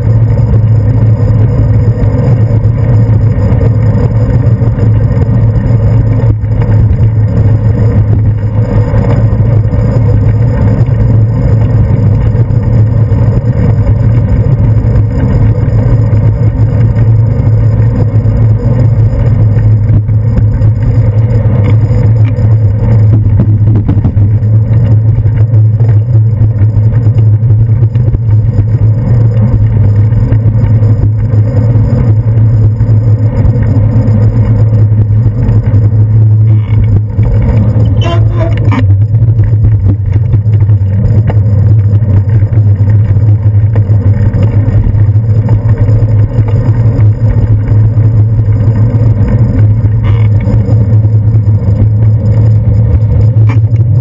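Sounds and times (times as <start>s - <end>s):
low rumble of road vibration: 0.0s - 54.0s
wind: 0.0s - 54.0s.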